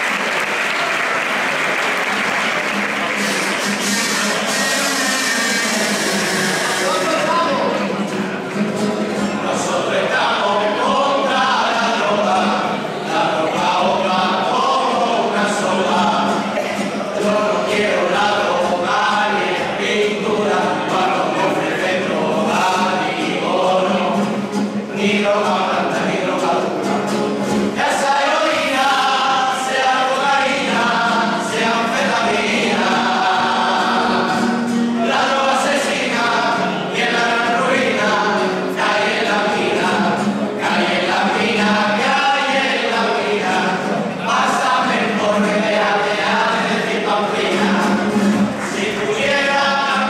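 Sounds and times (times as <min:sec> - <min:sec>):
group singing in chorus: 0:07.8 - 0:50.0.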